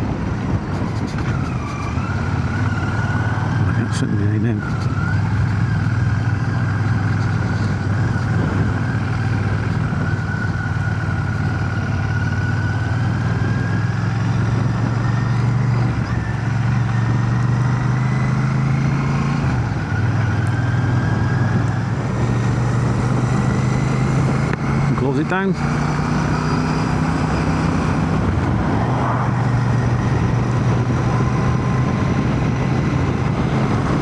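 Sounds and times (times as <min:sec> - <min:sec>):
motorcycle engine running: 0:00.0 - 0:34.0
road noise: 0:00.0 - 0:34.0
wind noise: 0:00.0 - 0:34.0.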